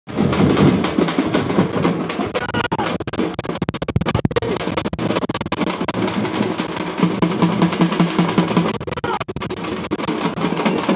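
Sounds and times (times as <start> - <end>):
rapid festival drumming: 0.1 - 10.9.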